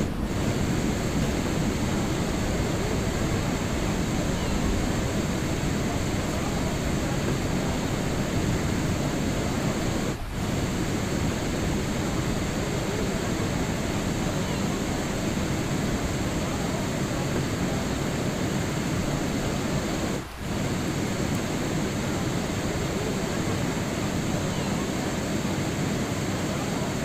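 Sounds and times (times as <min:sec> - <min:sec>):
dense rain: 0:00.0 - 0:27.0.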